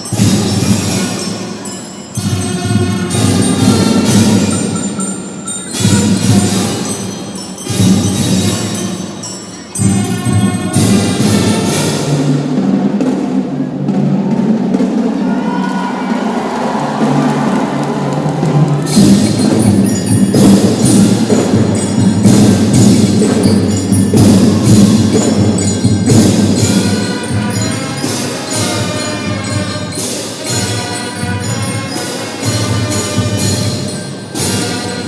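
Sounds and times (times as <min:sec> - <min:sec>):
marching drum band playing: 0:00.0 - 0:35.0.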